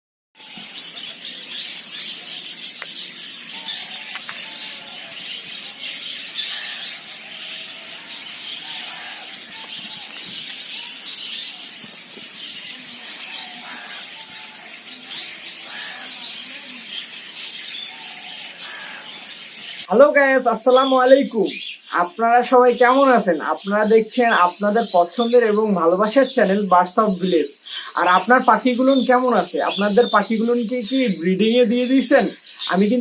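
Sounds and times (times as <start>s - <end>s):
small birds chirping: 0.4s - 33.0s.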